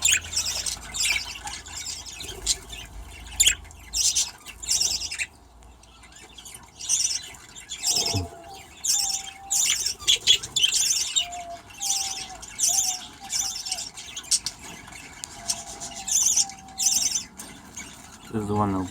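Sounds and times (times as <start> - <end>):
budgerigars chirping and chattering: 0.0 - 18.9.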